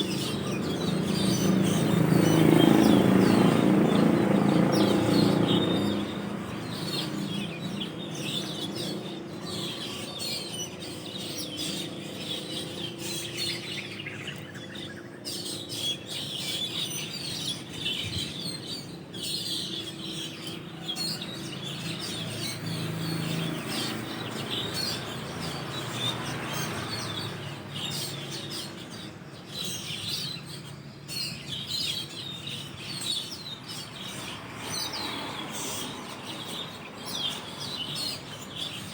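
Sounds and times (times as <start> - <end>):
starlings chirping: 0.0 - 38.9.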